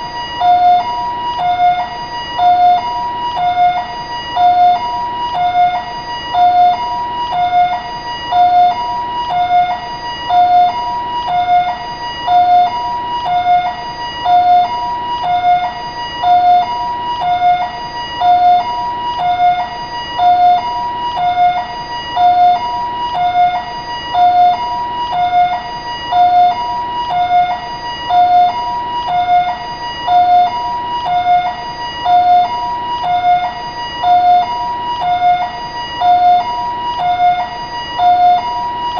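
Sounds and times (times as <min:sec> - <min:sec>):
ambulance siren hi-lo: 0:00.0 - 0:38.9.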